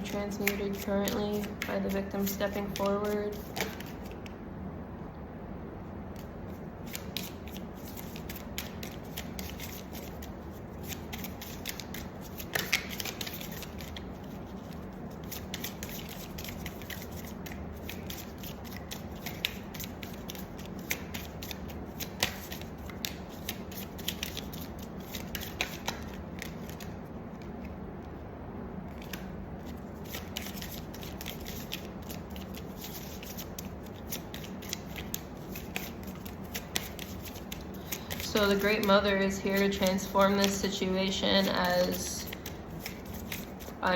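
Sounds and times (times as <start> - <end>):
cards being shuffled: 0.0 - 4.3, 6.2 - 27.8, 28.9 - 43.8.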